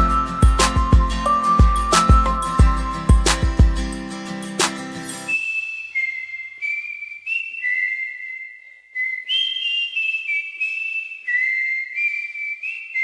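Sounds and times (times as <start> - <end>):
person whistling notes: 0.0 - 3.1, 5.2 - 13.0.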